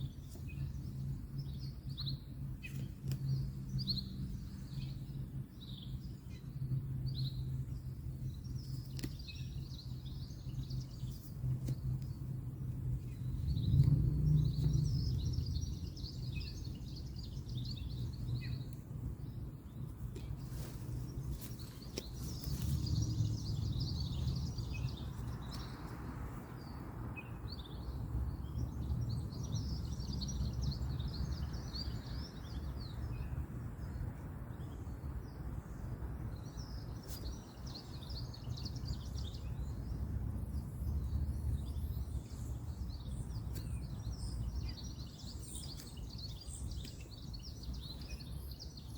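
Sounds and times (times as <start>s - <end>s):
distant road traffic rumble: 0.0s - 48.9s
small birds chirping: 0.0s - 48.9s.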